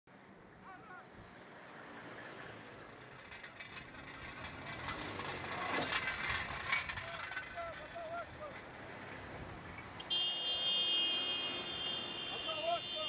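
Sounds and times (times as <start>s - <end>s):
trucks driving past: 0.1s - 13.0s.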